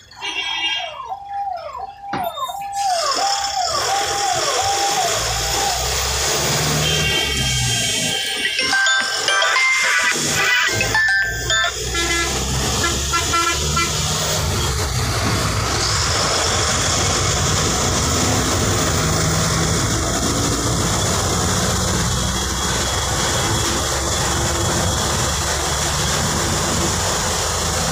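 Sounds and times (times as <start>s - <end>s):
bus engine running: 2.8s - 27.9s
road and wind noise: 3.8s - 27.9s.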